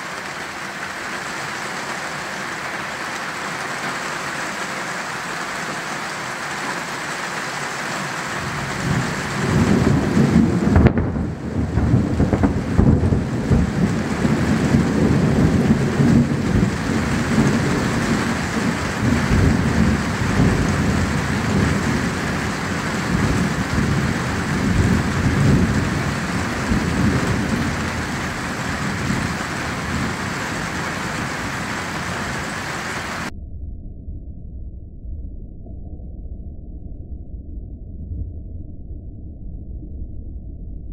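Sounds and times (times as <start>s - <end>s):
steady rain: 0.0s - 33.3s
thunder rumbling: 0.0s - 33.3s.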